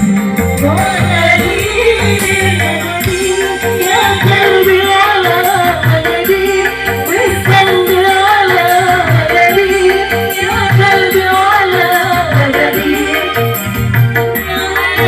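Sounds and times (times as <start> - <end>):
live band music: 0.0 - 15.0
steady drum beat: 0.0 - 15.0
woman singing: 0.0 - 15.0.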